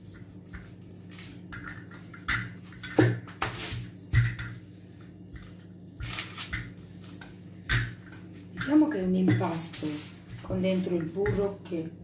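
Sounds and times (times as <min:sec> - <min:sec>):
rolling pin rolling dough: 0:00.0 - 0:12.0.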